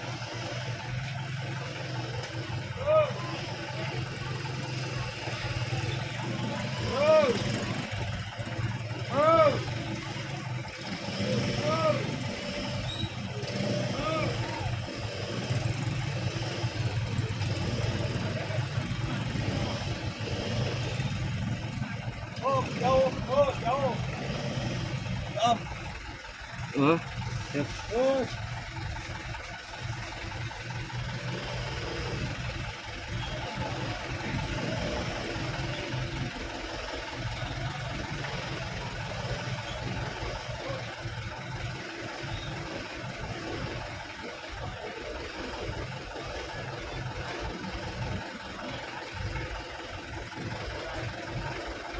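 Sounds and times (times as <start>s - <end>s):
diesel truck engine idling: 0.0s - 51.9s.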